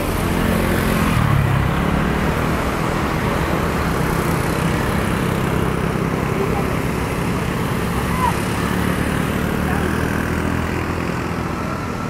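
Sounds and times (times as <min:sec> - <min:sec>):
aircraft engines running: 0:00.0 - 0:12.0.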